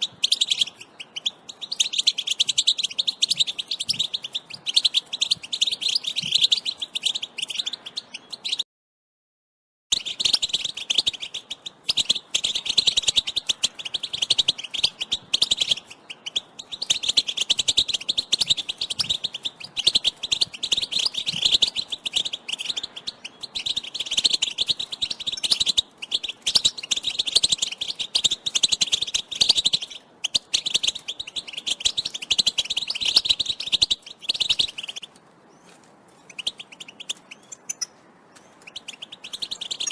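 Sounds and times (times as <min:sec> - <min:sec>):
goldfinch twittering: 0:00.0 - 0:08.6, 0:09.9 - 0:39.9.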